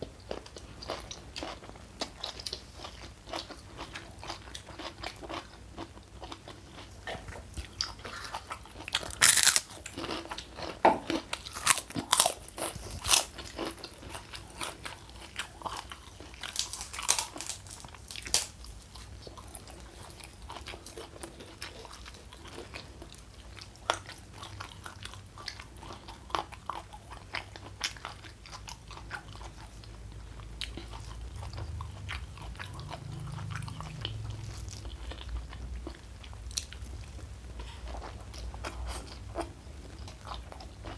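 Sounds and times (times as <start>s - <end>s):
crunchy food chewing: 0.2s - 40.9s.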